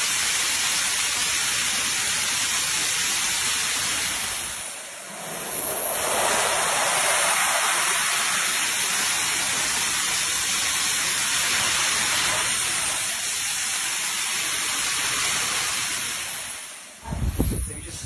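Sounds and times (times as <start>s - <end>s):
jet turbine engines roaring: 0.0s - 18.0s.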